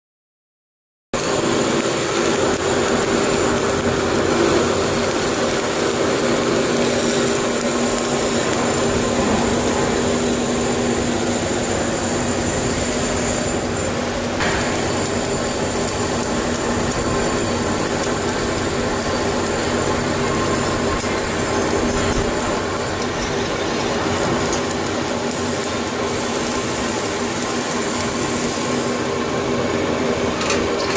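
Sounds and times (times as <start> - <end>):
industrial machinery hum: 1.2 - 30.9
welding arc crackle: 1.2 - 30.9.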